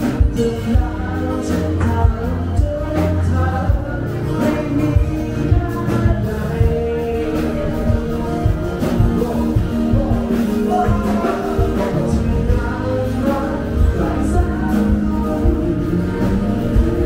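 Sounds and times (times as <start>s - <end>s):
person singing: 0.0s - 17.0s
steady drum beat: 0.0s - 17.0s.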